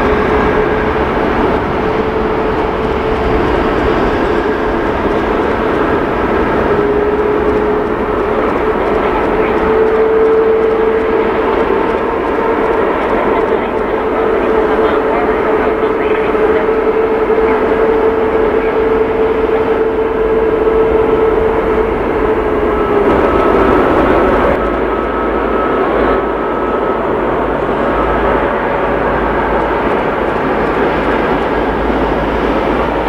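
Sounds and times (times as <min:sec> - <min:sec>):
jet engine roar with whine: 0:00.0 - 0:33.0.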